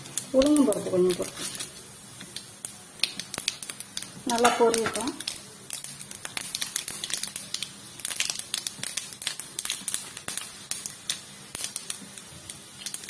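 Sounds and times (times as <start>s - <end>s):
seeds popping in hot oil: 0.0s - 13.0s.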